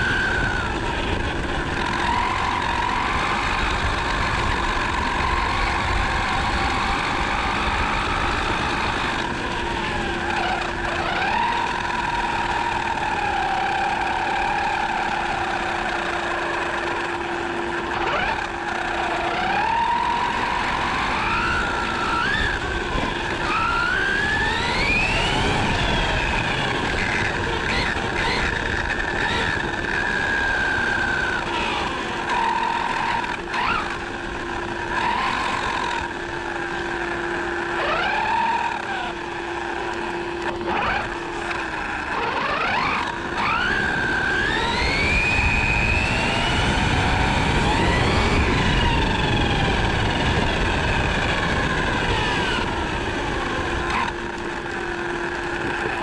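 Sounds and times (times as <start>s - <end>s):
electric motor whining: 0.0s - 56.0s
tyres rumbling on tarmac: 0.0s - 56.0s.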